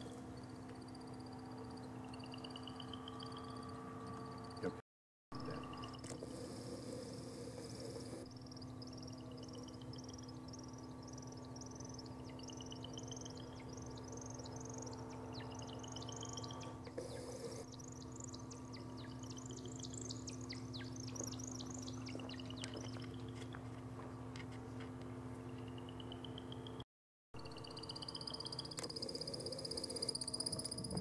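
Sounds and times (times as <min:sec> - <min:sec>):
steady low hum: 0:00.0 - 0:04.8, 0:05.4 - 0:26.8, 0:27.4 - 0:31.0.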